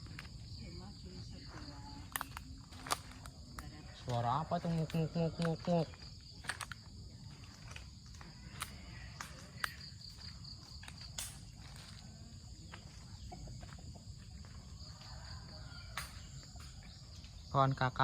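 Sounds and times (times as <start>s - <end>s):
twigs and leaves crackling: 0.0s - 17.5s
insects chirring: 0.0s - 18.0s
footsteps: 1.3s - 17.5s.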